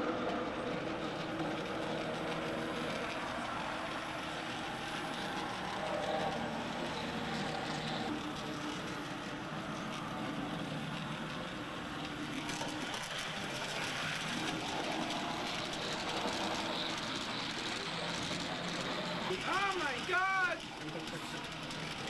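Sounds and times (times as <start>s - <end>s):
model train whirring on rails: 0.0s - 22.0s.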